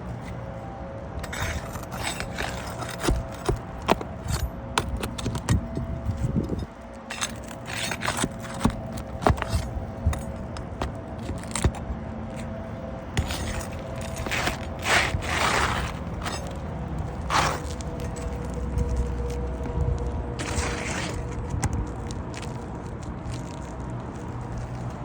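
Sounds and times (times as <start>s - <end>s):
parts scraping and clattering: 0.0s - 22.6s.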